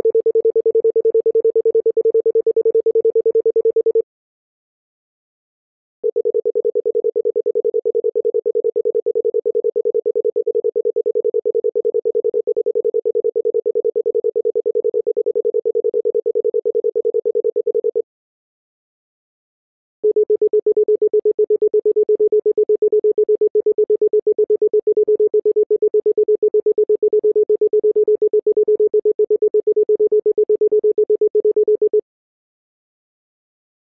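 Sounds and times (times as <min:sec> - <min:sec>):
low fluttering telephone tone: 0:00.0 - 0:04.0, 0:06.0 - 0:18.0, 0:20.0 - 0:32.0
lower telephone tone: 0:00.0 - 0:04.0, 0:06.0 - 0:18.0, 0:20.0 - 0:32.0.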